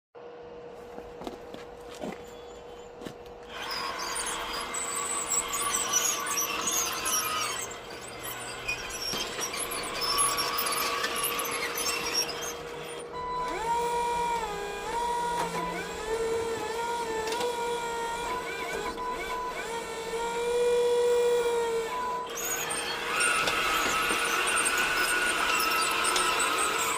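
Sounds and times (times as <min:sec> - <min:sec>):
model excavator motor hum: 0:00.3 - 0:26.9
motor whine changing pitch: 0:02.0 - 0:26.9.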